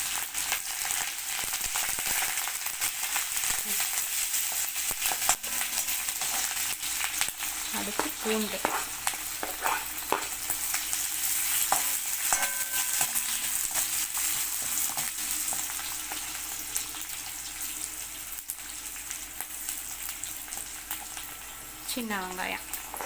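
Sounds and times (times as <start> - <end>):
sharp crackles while stirring: 0.0 - 21.6, 22.3 - 23.0
spices sizzling in hot oil: 0.0 - 23.0.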